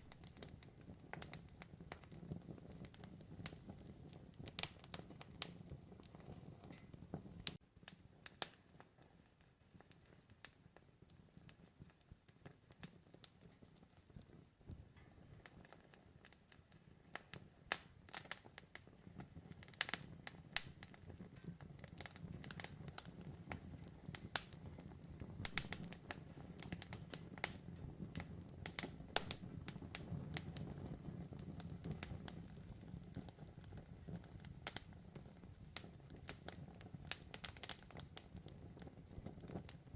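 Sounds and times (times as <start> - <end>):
campfire pops and snaps: 0.0 - 39.9
low rumble of flames: 0.0 - 39.9.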